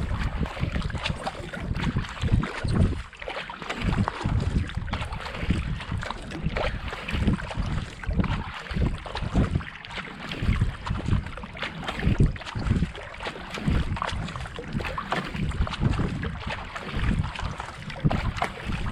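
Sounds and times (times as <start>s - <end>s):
paddle splashing in water: 0.0s - 18.9s
wind buffeting microphone: 0.0s - 18.9s.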